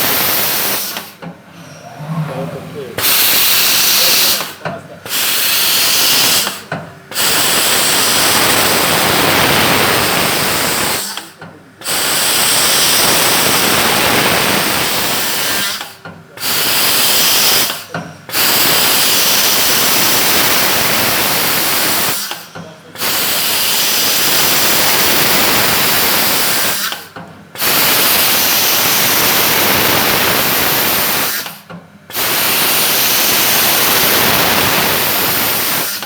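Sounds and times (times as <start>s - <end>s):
machine hissing: 0.0s - 36.0s.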